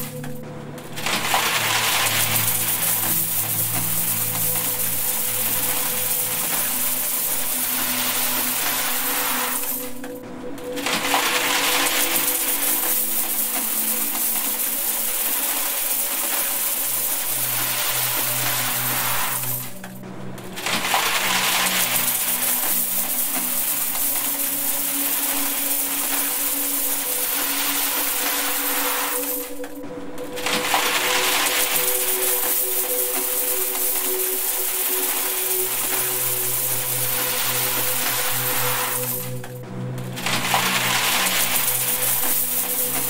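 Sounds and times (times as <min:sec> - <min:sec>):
coins clinking into metal box: 0:01.0 - 0:10.1, 0:10.8 - 0:19.8, 0:20.6 - 0:29.7, 0:30.4 - 0:39.5, 0:40.2 - 0:43.0.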